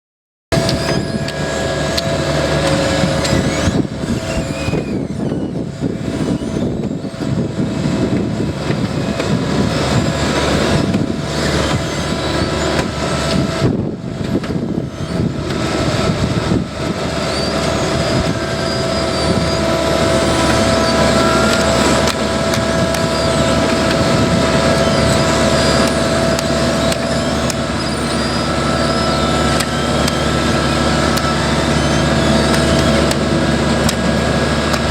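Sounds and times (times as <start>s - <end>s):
high whine: 0.5s - 34.9s
paving machinery engines running: 0.5s - 34.9s.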